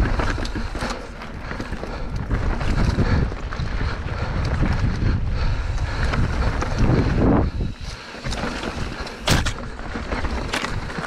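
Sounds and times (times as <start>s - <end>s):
bike rolling on rocky trail: 0.0s - 11.0s
wind buffeting microphone: 0.0s - 11.0s.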